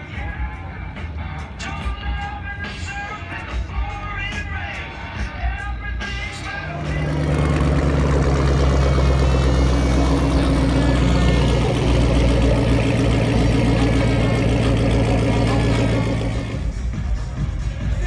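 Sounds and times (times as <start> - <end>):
car engine idling: 0.0 - 17.3.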